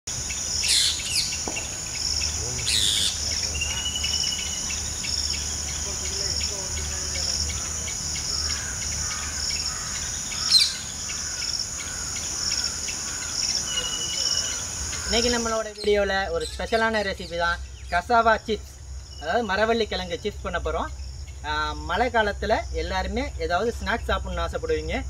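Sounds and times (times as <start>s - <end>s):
bird chirps: 0.1s - 22.1s
insects buzzing in pulses: 0.1s - 25.0s.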